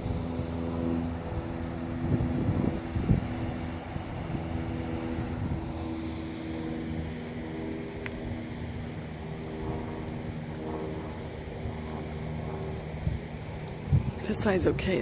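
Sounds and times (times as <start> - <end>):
engine humming: 0.0 - 15.0
wind gusting on microphone: 0.0 - 15.0.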